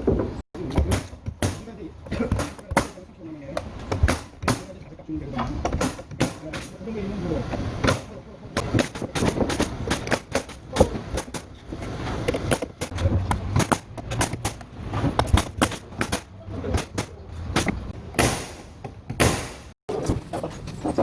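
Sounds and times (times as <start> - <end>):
carpentry knocks and clicks: 0.0 - 4.8, 5.4 - 6.8, 7.5 - 11.5, 12.2 - 19.3.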